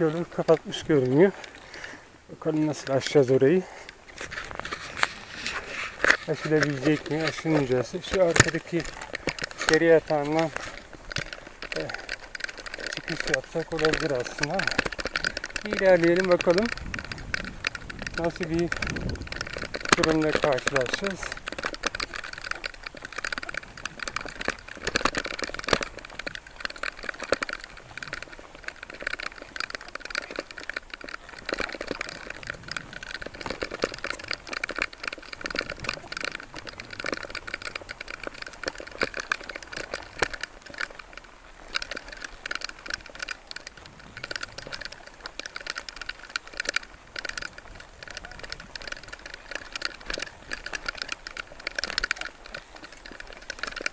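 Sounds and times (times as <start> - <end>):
bike rattling over gravel: 0.0 - 53.9
tyres crunching on stones: 0.0 - 53.9.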